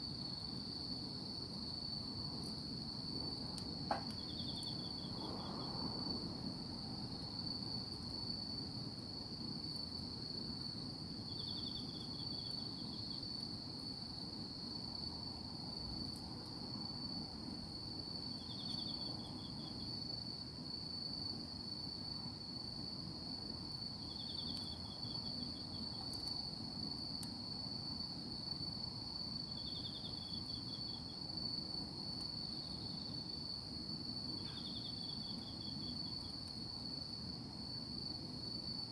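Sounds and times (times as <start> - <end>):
insect continuous high trill: 0.0 - 38.9.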